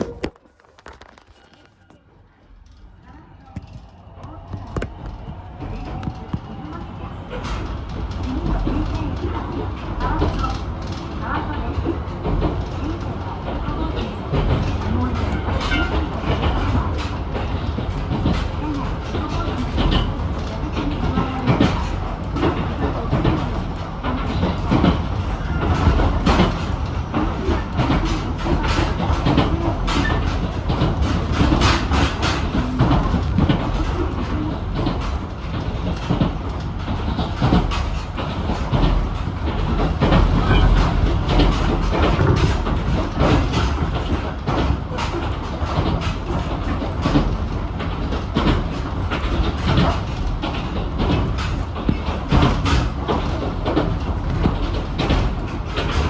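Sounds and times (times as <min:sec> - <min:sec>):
rail joint clicks: 0:00.0 - 0:56.0
wheels rumbling on rail: 0:00.0 - 0:56.0.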